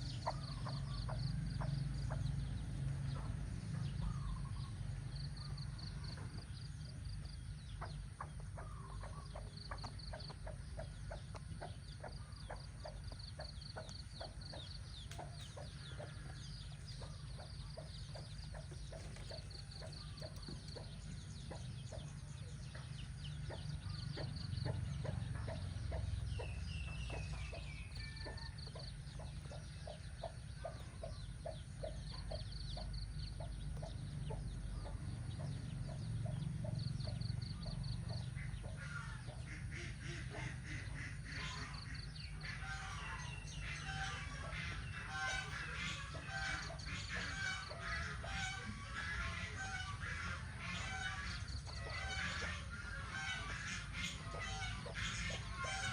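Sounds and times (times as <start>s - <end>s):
hen clucking: 0.0s - 55.9s
high-pitched bird calls: 7.7s - 55.9s.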